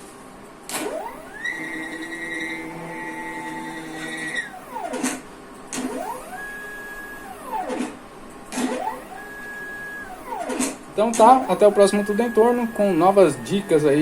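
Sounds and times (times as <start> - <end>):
stepper motor whine: 0.7 - 14.0.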